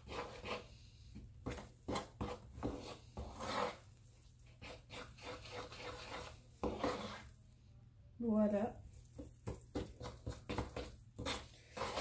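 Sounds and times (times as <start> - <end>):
spoon scraping paste in wooden bowl: 0.0 - 7.4, 9.0 - 12.0.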